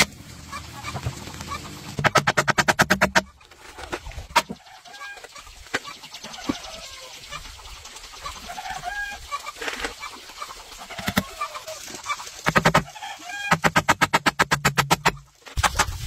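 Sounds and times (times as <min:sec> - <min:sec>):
chickens clucking: 0:00.4 - 0:13.7.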